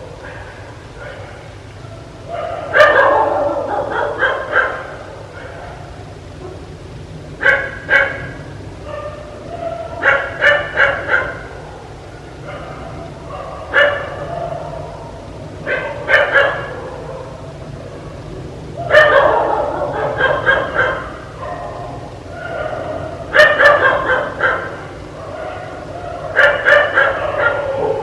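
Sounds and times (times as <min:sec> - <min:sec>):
dog barking: 0:00.0 - 0:06.7, 0:07.4 - 0:17.5, 0:18.8 - 0:28.0
steady low hum: 0:00.0 - 0:28.0.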